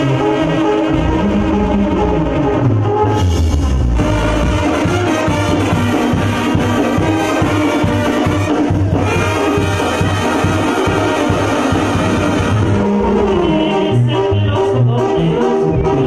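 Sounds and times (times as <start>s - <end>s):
brass band dance music: 0.0s - 16.0s.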